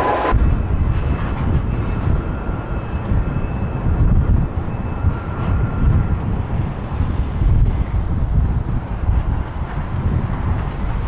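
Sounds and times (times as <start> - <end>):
faint high engine whine: 0.0 - 10.1
jet engines rumbling: 0.0 - 11.0.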